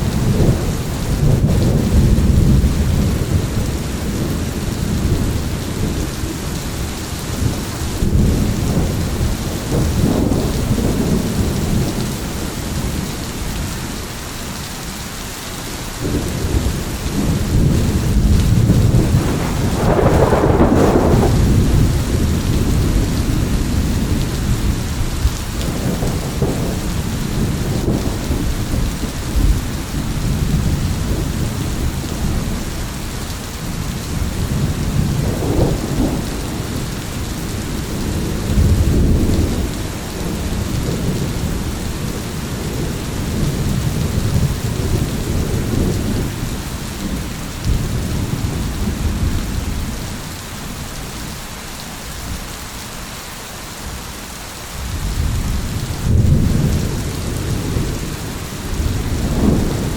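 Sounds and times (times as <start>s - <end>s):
thunder rumbling: 0.0s - 14.1s, 16.0s - 51.4s, 54.8s - 59.9s
steady rain falling: 0.0s - 59.9s.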